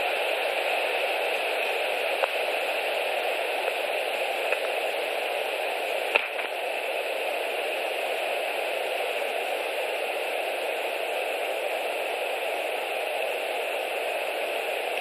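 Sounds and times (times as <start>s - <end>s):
static-like hiss: 0.0s - 15.0s.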